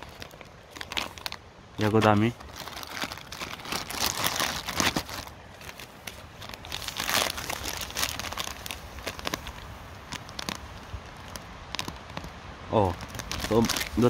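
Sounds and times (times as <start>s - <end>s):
plastic packets crinkling: 0.0s - 14.0s.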